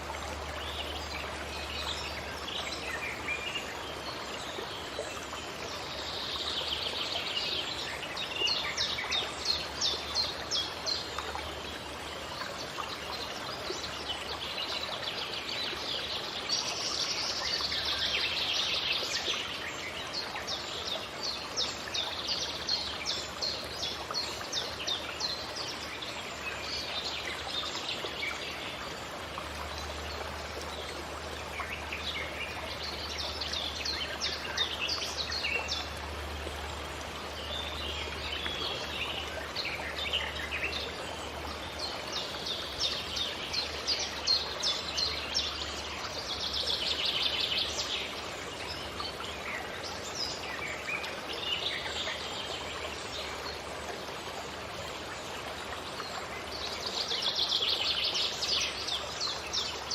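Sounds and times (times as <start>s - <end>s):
flowing water: 0.0s - 59.9s
songbirds singing: 0.0s - 59.9s.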